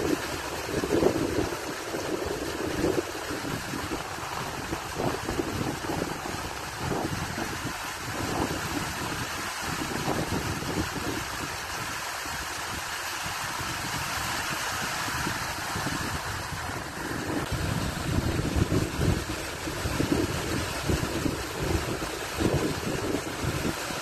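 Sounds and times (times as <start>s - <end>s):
stream water rushing: 0.0s - 24.0s
wind buffeting microphone: 0.0s - 24.0s.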